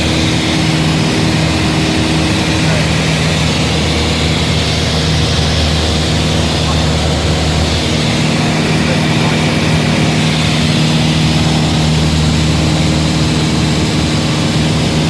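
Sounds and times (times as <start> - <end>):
propeller airplane engine droning: 0.0 - 15.0
propeller noise: 0.0 - 15.0.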